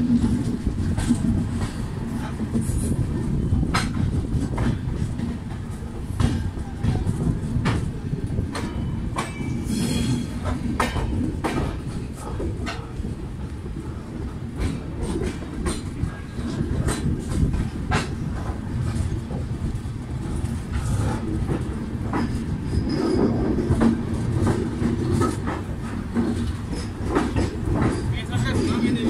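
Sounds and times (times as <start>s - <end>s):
train wheels rumbling: 0.0s - 29.0s
wheels clicking over rail joints: 0.0s - 29.0s.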